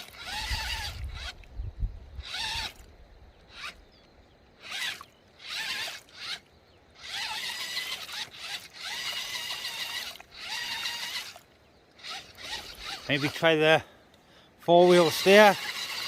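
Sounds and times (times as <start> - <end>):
toy truck electric motor whining: 0.0 - 1.4, 2.2 - 2.9, 3.5 - 3.9, 4.6 - 13.7, 14.8 - 16.0.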